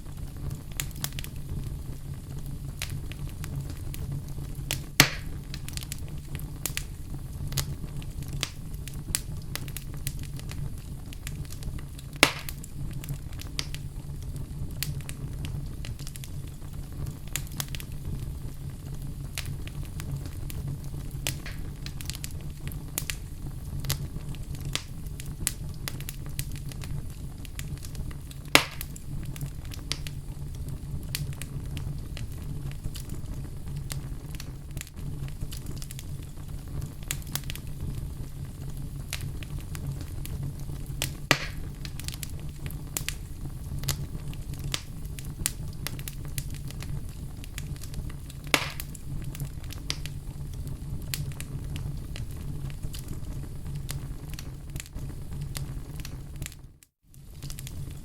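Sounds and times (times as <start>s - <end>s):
fire popping: 0.0s - 58.0s
wood fire crackling: 0.0s - 58.0s.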